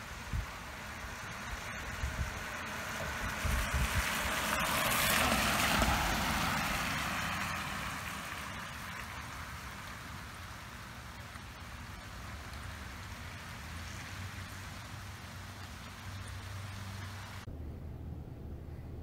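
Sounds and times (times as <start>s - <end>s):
vehicle tyres hissing on wet road: 0.0s - 17.5s.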